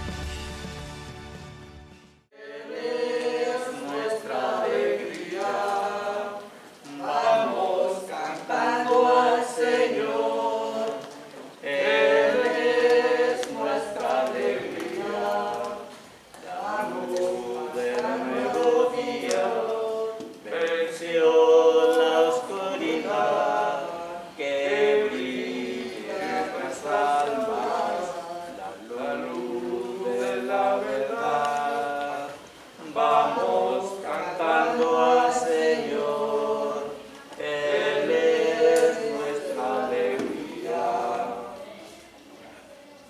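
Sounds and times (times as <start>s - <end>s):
choir singing a hymn: 2.3s - 42.1s.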